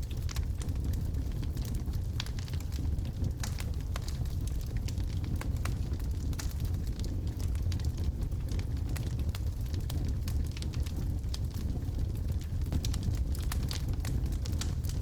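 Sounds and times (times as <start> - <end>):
burning wood crackling and popping: 0.0 - 15.0
fire rumbling: 0.0 - 15.0.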